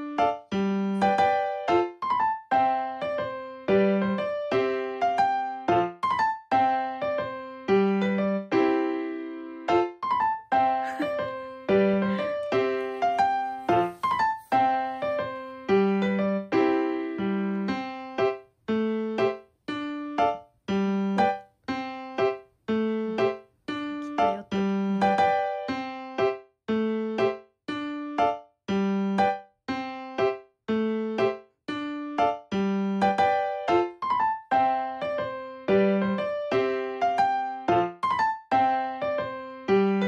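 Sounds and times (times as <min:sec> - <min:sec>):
light keyboard tune: 0:00.0 - 0:40.0.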